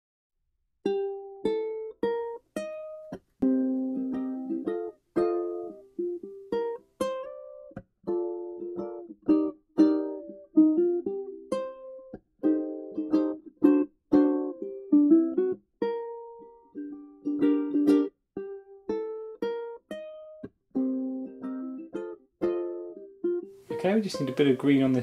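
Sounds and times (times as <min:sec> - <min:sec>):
plucked string instrument music: 0:00.8 - 0:25.0.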